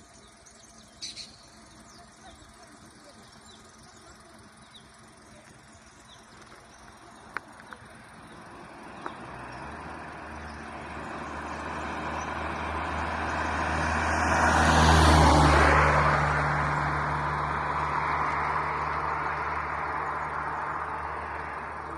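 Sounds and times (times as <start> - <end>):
vehicle passing: 0.0 - 21.9.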